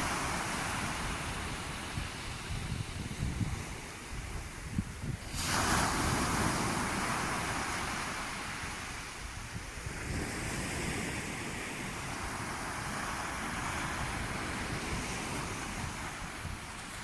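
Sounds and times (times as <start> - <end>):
sea waves washing onto shore: 0.0 - 17.0.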